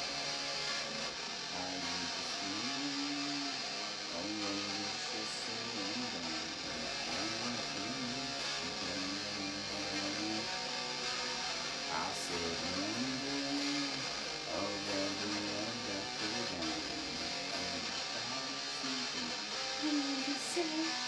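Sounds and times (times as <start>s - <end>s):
rock song with electric guitars: 0.0s - 21.0s.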